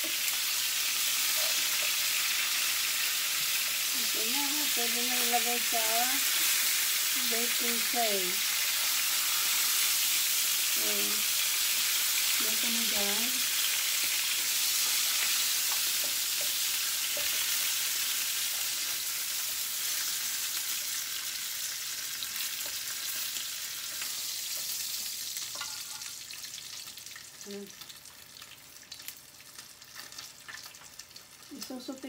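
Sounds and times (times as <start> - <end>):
chicken sizzling in a frying pan: 0.0 - 32.0.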